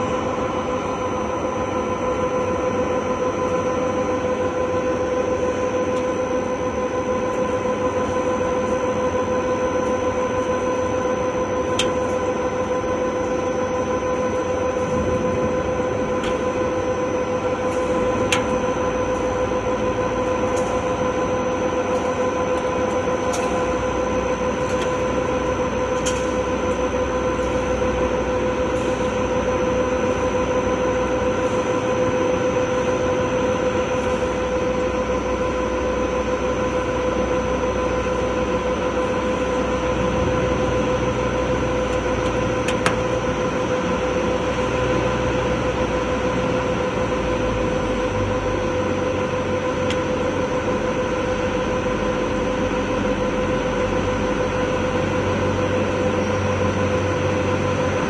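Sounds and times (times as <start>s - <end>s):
lathe spindle whine: 0.0s - 58.0s.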